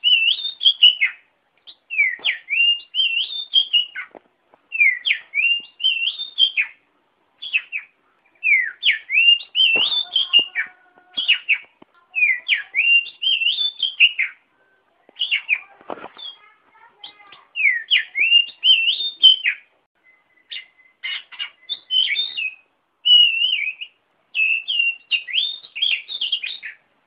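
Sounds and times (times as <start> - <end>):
bird singing whistled phrases: 0.0 - 4.1, 4.7 - 6.8, 7.4 - 14.4, 15.2 - 26.8.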